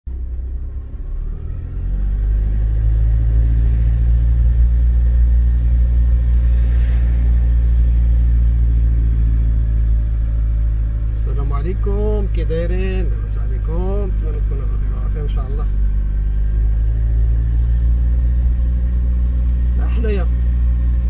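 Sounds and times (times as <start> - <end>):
vehicle engine droning: 0.1 - 21.0.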